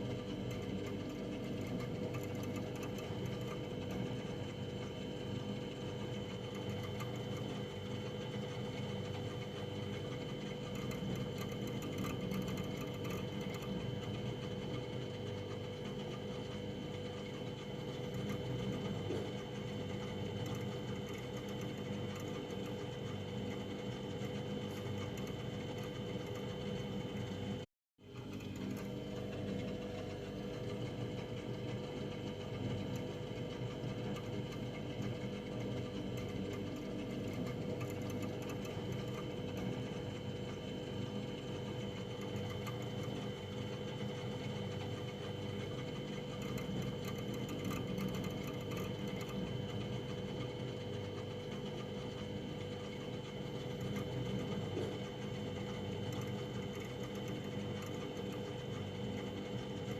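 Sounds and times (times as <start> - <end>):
freezer compressor and fan hum: 0.0 - 59.9.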